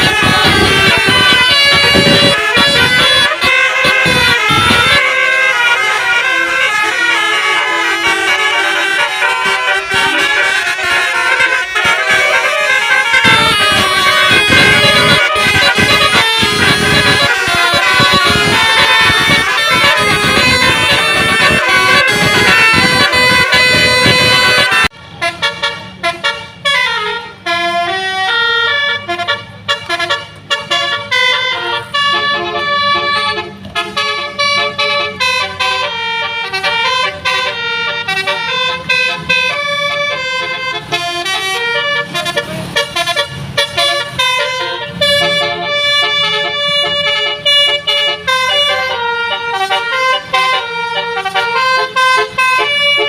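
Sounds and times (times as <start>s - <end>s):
musical bus horn playing: 0.0s - 53.0s.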